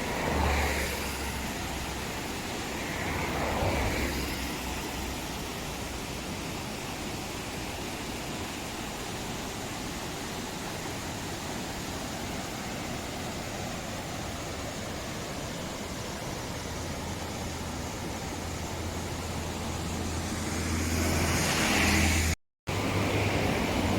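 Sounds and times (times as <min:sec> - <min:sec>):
river rushing: 0:00.0 - 0:23.9.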